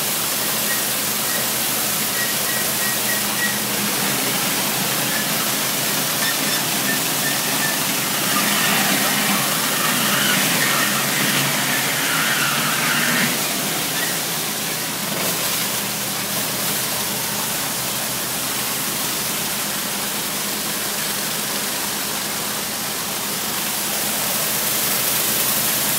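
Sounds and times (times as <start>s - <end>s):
pressure washer rushing hiss: 0.0s - 25.9s.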